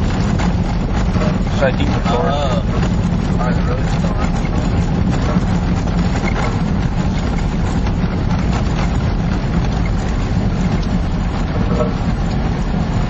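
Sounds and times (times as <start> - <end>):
engine and road rumble: 0.0 - 13.0
wind buffeting microphone: 0.0 - 13.0.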